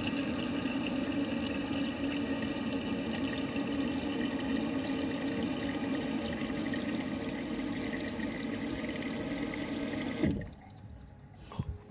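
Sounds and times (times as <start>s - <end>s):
water rushing into toilet cistern: 0.0s - 10.6s.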